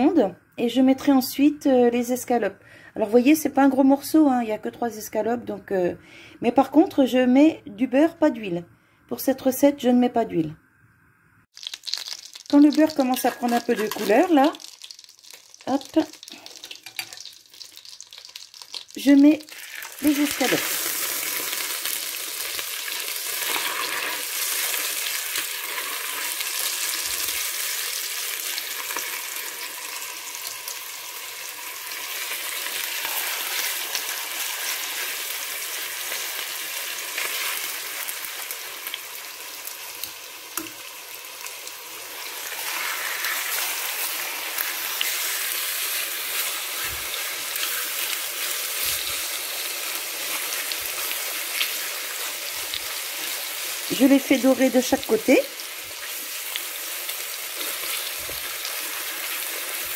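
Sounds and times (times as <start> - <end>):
chicken sizzling in butter: 11.5 - 59.9.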